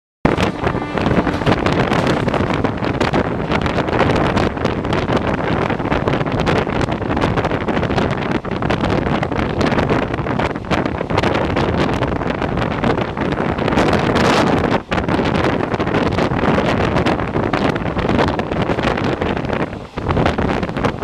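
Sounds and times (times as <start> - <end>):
wind buffeting microphone: 0.2 - 21.0
train wheels rumbling on rails: 0.3 - 21.0.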